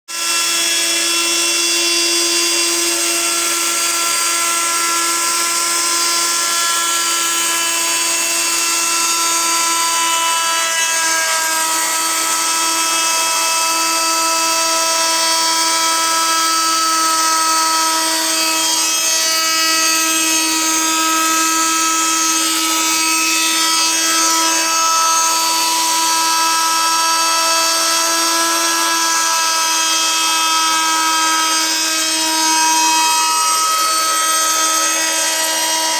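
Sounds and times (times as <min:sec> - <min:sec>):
power tool motor whining: 0:00.1 - 0:35.9.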